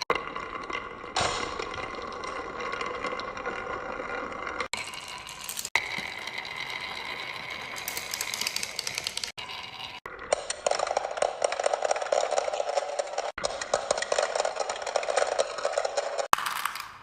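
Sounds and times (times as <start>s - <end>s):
marbles rattling on wooden track: 0.0s - 17.0s.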